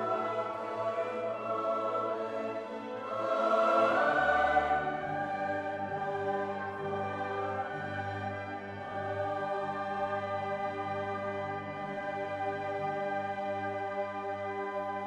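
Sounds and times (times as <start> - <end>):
choral and orchestral chords: 0.0 - 15.0.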